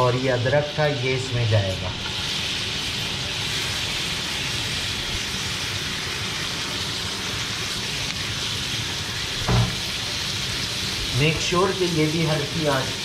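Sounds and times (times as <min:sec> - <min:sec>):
butter sizzling in frying pan: 0:00.0 - 0:13.0.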